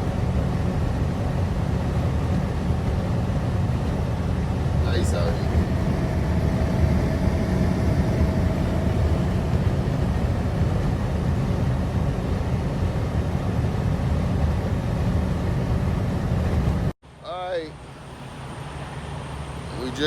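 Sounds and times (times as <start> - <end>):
truck road and engine noise: 0.0 - 20.0.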